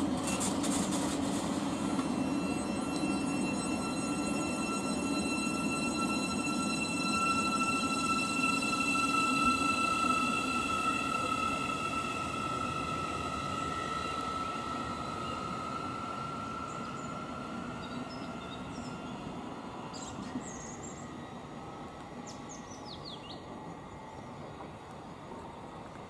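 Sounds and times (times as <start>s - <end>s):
electric train whine and rumble: 0.0s - 26.0s.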